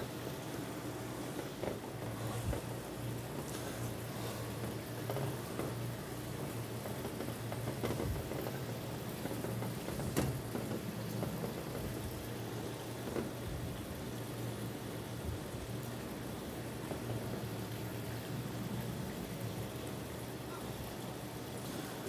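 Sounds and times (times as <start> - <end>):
faint hiss: 0.0 - 22.0.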